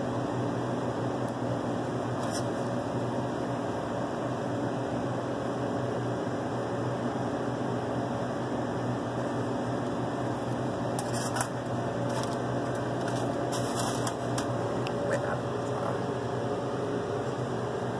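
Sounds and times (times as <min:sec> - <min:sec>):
low machine hum with hiss: 0:00.0 - 0:17.9.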